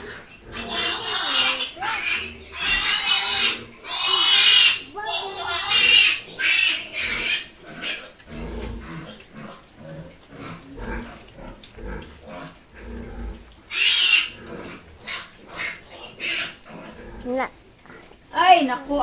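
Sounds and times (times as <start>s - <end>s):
piglets grunting: 0.0s - 18.2s.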